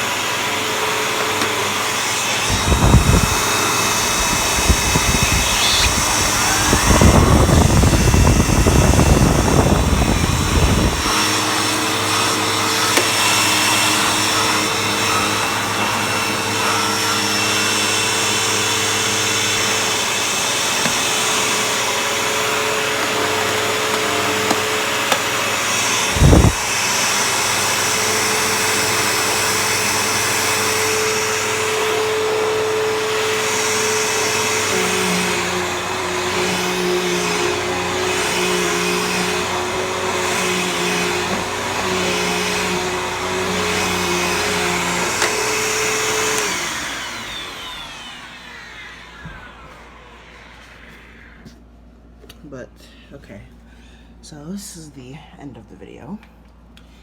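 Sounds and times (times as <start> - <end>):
vacuum cleaner whining: 0.0 - 52.2.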